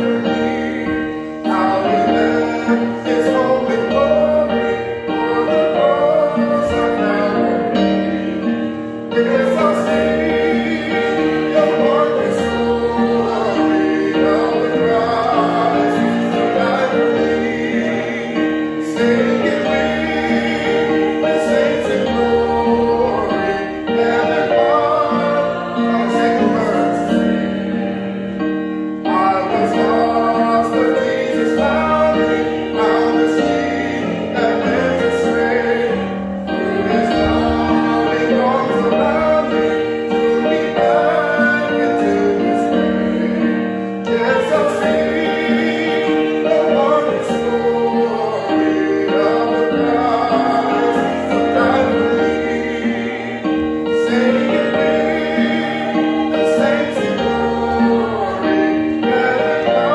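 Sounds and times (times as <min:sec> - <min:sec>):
piano accompaniment: 0:00.0 - 0:59.9
voices singing a hymn: 0:00.0 - 0:59.9.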